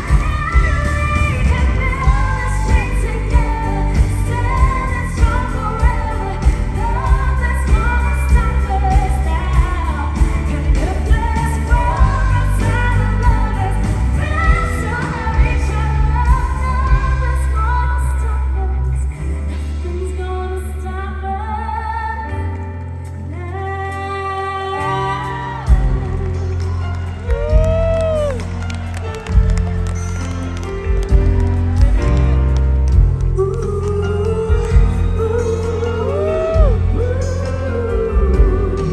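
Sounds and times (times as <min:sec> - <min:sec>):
backing music with steady beat: 0:00.0 - 0:17.9, 0:24.8 - 0:38.9
woman singing pop ballad: 0:00.0 - 0:30.1, 0:30.9 - 0:38.9.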